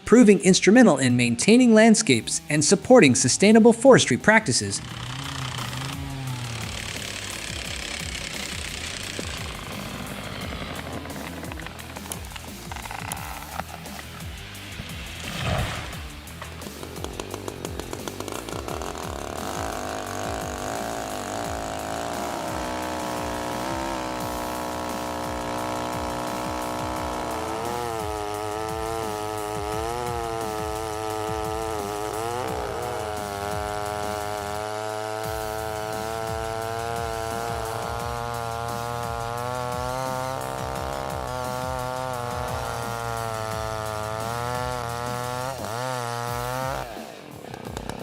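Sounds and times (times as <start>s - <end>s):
chainsaw engine cutting: 0.0s - 48.0s.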